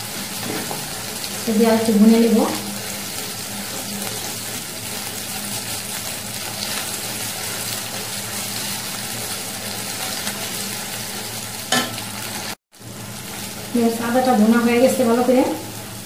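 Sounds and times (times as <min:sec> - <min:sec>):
paste sizzling in hot oil: 0:00.0 - 0:14.3.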